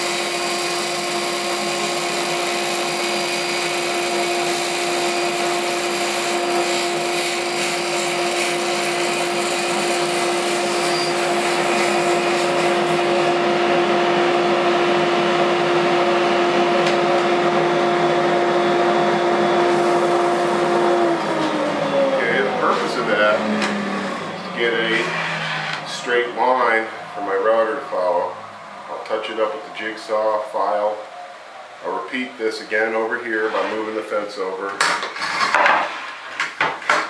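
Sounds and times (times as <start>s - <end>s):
table saw whining: 0.0s - 34.5s.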